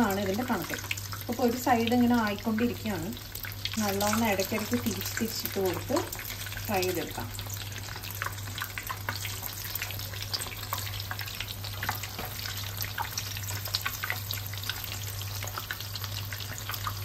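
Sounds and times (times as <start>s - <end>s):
cheese sticks deep-frying: 0.0s - 17.0s.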